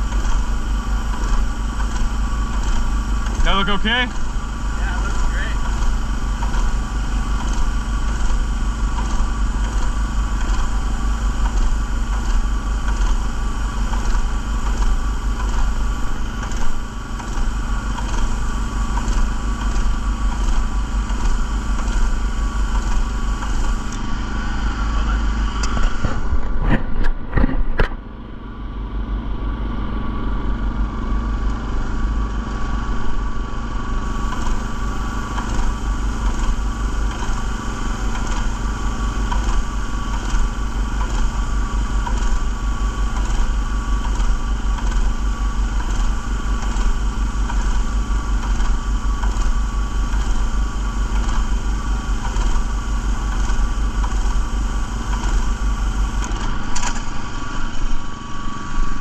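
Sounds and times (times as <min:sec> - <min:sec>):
small gas engine running: 0:00.0 - 0:59.0.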